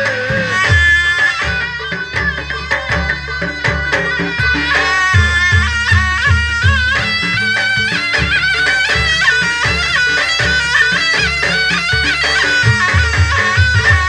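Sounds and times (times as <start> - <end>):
reedy wind instrument melody: 0.0 - 14.0.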